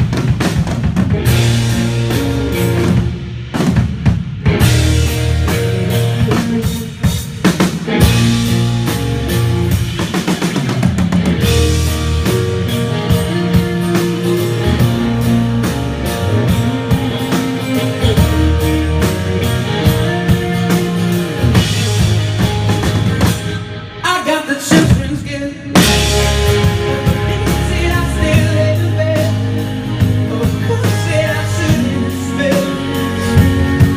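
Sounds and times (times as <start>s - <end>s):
electric bass: 0.0s - 24.1s, 24.8s - 33.9s
drum kit: 0.0s - 33.9s
electric guitar: 0.0s - 33.9s.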